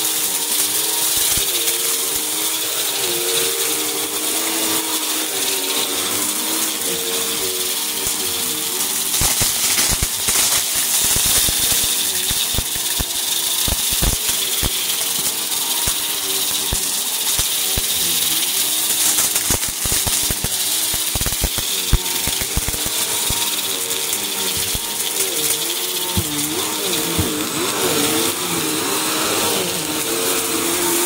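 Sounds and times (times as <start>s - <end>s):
vacuum cleaner motor hum: 0.0s - 31.0s
debris rattling into canister: 0.1s - 31.0s.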